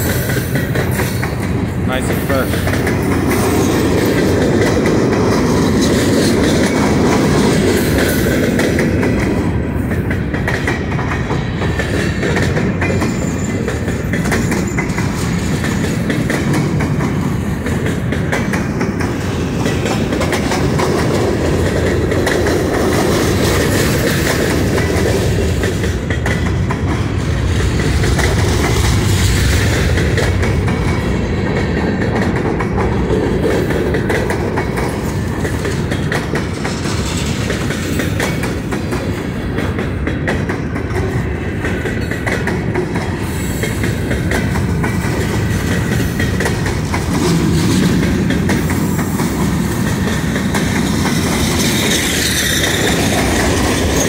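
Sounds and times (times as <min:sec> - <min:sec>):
railroad cars rumbling on rail: 0:00.0 - 0:54.0.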